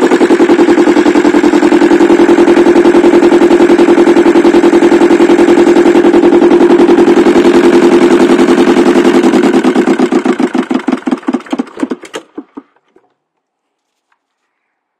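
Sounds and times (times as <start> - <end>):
marine diesel engine running down: 0.0 - 12.6.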